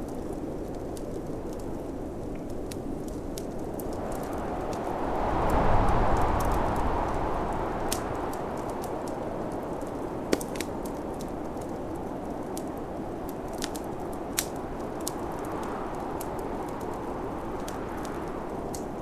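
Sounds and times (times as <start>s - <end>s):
fire popping: 0.0s - 19.0s
wood fire crackling: 0.0s - 19.0s
rushing snowstorm wind: 3.2s - 19.0s.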